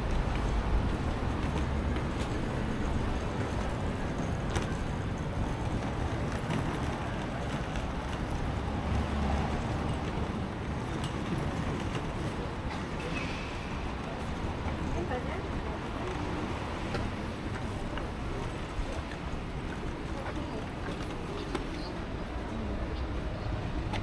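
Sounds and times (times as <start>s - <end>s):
road traffic rumble: 0.0s - 24.0s
street noise: 0.0s - 24.0s.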